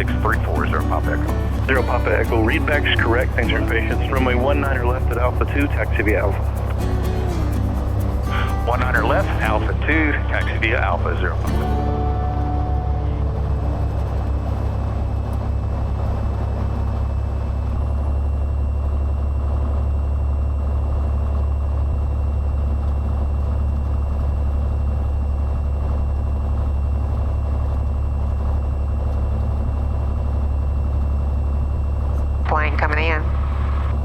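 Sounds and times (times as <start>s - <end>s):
aircraft engine and propeller drone: 0.0s - 34.0s.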